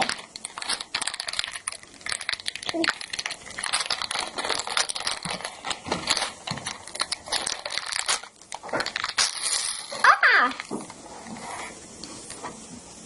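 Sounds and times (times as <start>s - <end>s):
plastic bags crinkling: 0.0s - 12.4s.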